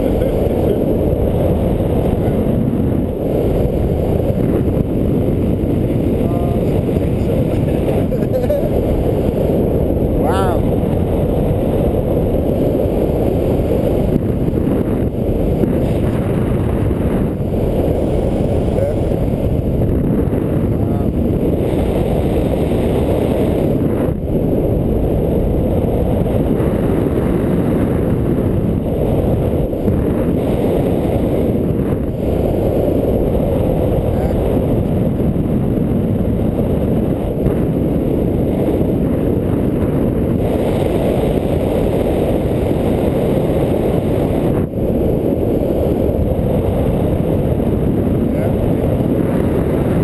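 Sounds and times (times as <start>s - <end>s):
wind noise on microphone: 0.0s - 50.0s.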